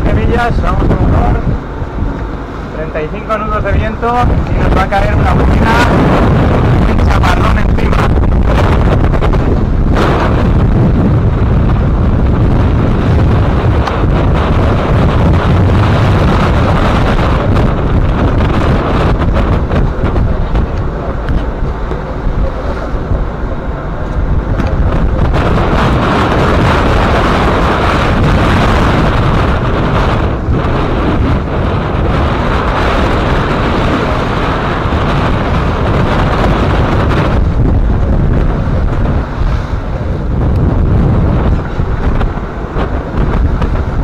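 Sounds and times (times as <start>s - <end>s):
breaking waves along hull: 0.0s - 44.0s
strong wind buffeting microphone: 0.0s - 44.0s.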